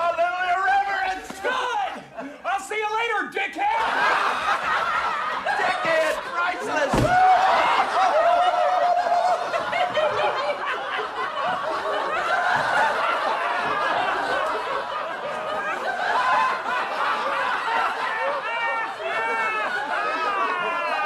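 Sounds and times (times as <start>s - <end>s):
men laughing: 0.6s - 2.5s, 3.7s - 21.0s.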